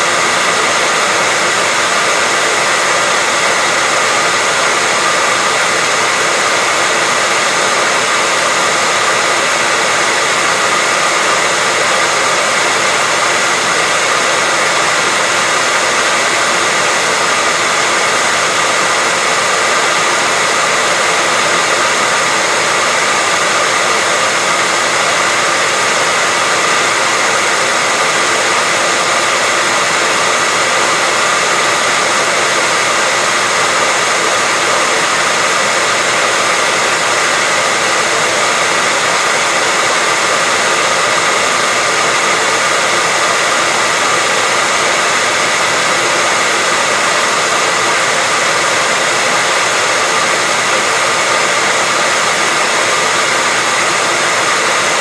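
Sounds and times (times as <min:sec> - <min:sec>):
hairdryer blowing air: 0:00.0 - 0:55.0.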